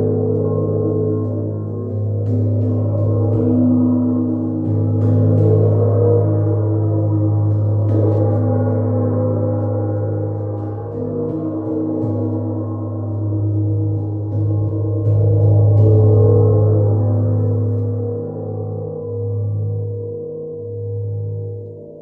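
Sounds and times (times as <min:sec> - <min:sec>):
gong ringing: 0:00.0 - 0:19.4
soft gong strikes: 0:00.0 - 0:19.6.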